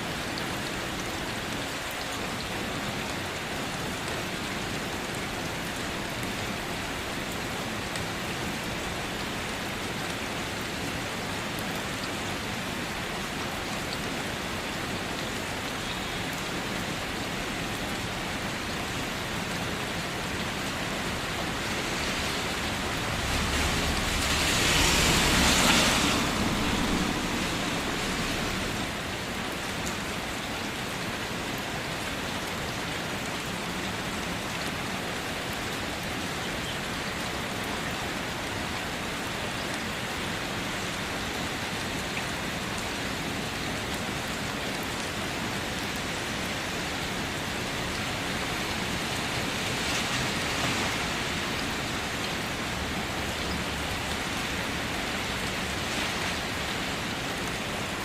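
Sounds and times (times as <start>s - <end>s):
rain pattering on a car: 0.0s - 58.0s.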